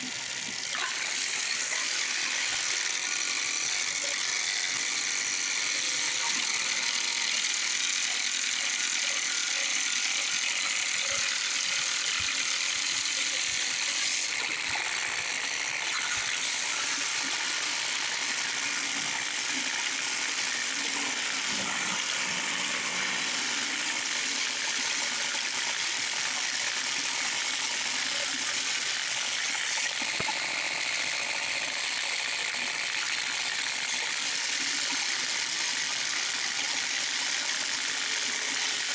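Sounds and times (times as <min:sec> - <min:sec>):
drum sander and vacuum hiss: 0:00.0 - 0:38.9.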